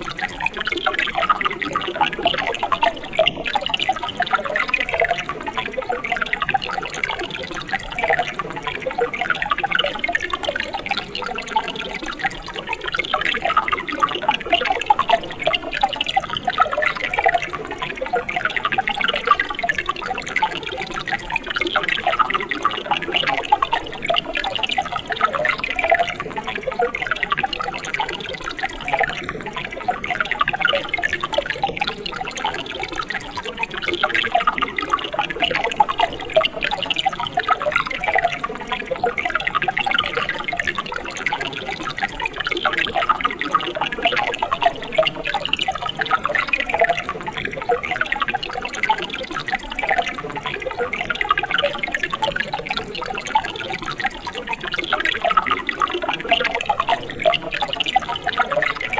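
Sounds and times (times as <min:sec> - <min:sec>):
stream water bubbling: 0:00.0 - 0:58.9.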